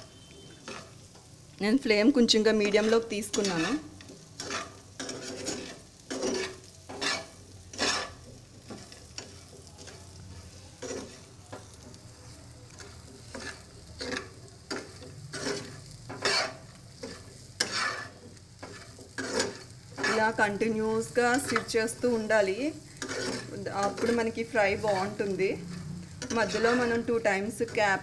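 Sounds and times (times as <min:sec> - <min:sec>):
spatula scraping a pan: 0:00.0 - 0:01.4, 0:02.3 - 0:28.0
light sizzle of frying: 0:00.0 - 0:28.0.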